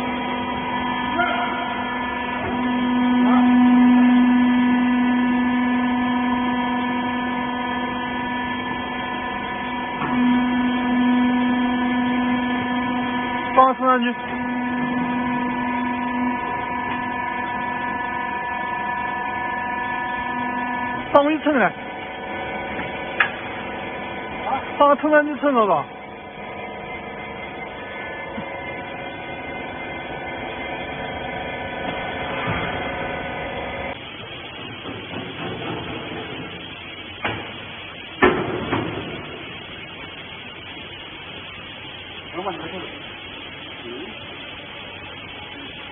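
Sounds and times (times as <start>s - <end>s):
hydraulic power unit humming: 0.0s - 45.9s.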